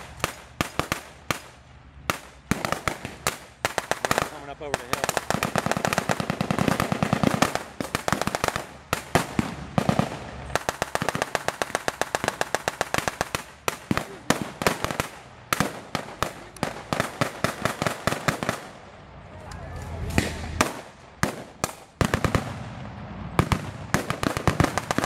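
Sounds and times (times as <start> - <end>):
machine gun and rifle fire: 2.1 - 18.8, 20.2 - 22.7, 23.4 - 25.0.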